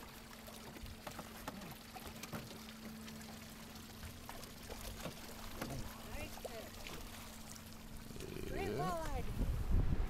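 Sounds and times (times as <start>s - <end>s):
small waves lapping against hull: 0.0s - 10.0s.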